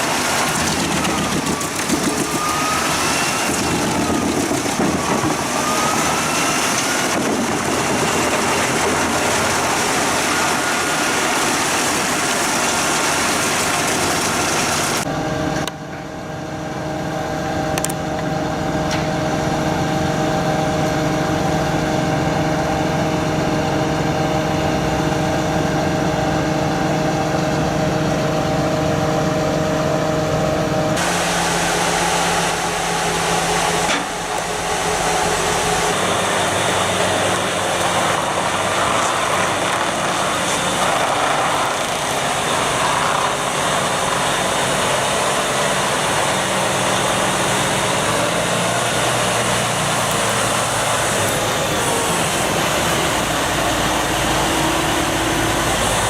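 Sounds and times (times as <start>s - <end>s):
heavy machinery engine running: 0.0s - 56.0s.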